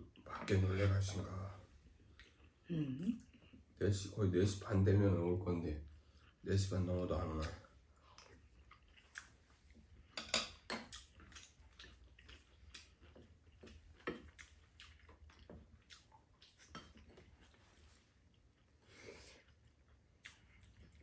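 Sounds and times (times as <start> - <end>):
quiet chewing: 0.1 - 3.8, 5.8 - 21.0.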